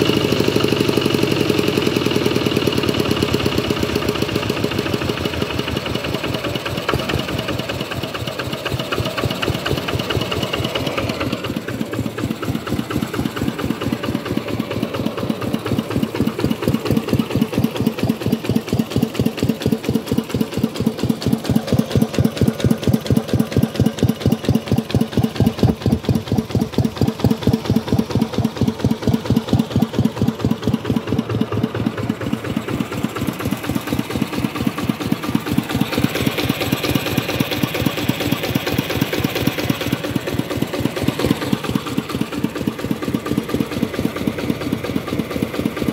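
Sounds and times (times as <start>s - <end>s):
diesel engine chuffing: 0.0s - 45.9s.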